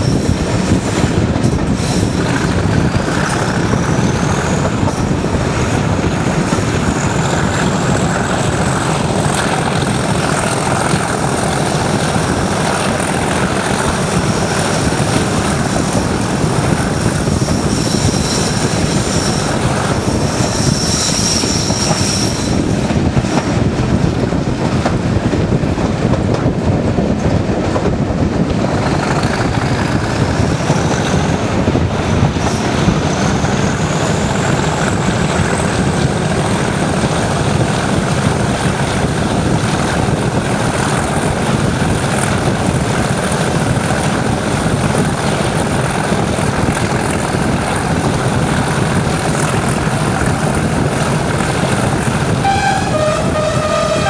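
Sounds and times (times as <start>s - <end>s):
diesel locomotive engine working hard: 0.0s - 54.0s
wheels on rails: 0.0s - 54.0s
wind rush: 0.0s - 54.0s.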